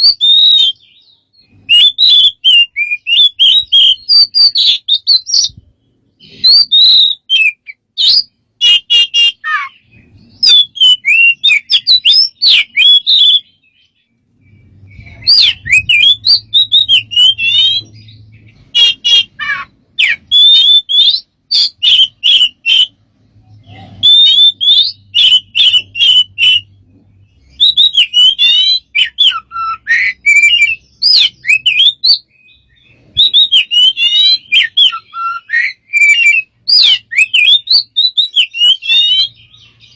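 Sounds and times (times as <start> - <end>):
bird calling: 0.0 - 39.9.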